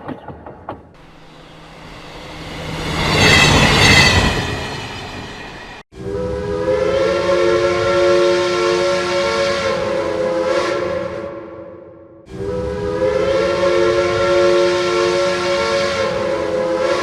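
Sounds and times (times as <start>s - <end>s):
train passing: 0.9s - 11.4s, 12.3s - 17.0s
train horn chord: 1.0s - 4.9s, 5.9s - 17.0s
train horn: 1.0s - 17.0s.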